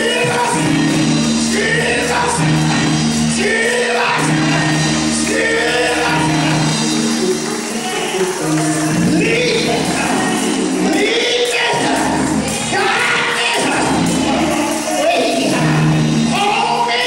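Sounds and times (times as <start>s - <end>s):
man singing preaching: 0.0s - 17.0s
sustained organ chords: 0.0s - 17.0s.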